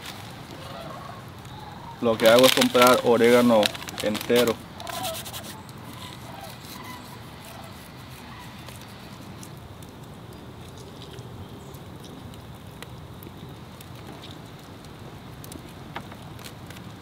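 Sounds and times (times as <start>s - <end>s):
dried herbs crumbled by hand: 0.0s - 17.0s.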